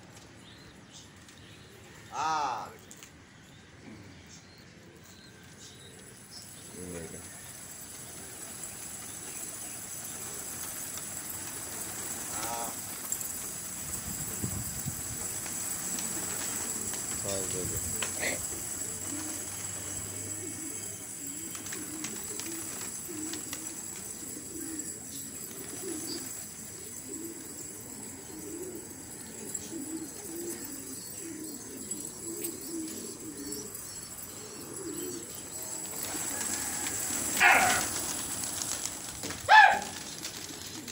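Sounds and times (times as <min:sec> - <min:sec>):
pigeons cooing: 0:03.7 - 0:40.9.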